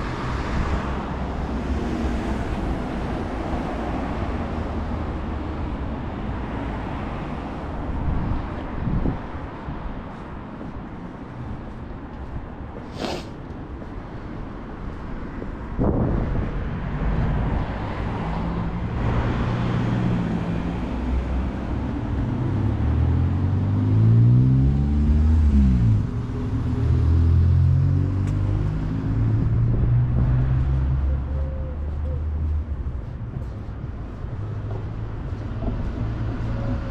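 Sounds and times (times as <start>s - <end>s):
vehicle engines passing by: 0.0s - 36.9s.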